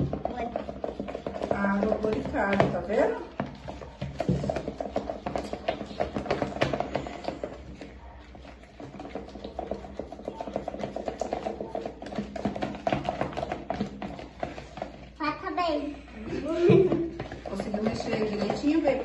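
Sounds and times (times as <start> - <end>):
slime being stirred with clicks: 0.0 - 15.8.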